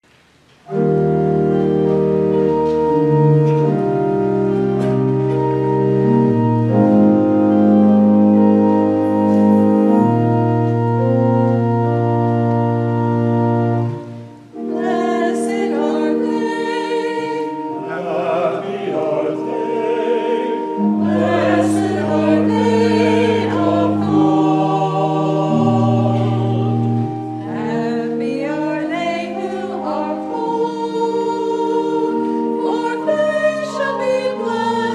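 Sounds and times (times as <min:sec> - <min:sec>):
organ playing held chords: 0:00.6 - 0:34.9
voices singing a hymn: 0:00.7 - 0:34.9.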